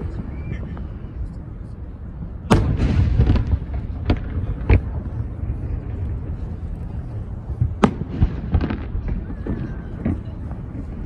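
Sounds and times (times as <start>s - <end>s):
fireworks crackling: 0.0s - 11.0s
steady low rumble: 0.0s - 11.0s
fireworks bangs: 2.0s - 11.0s.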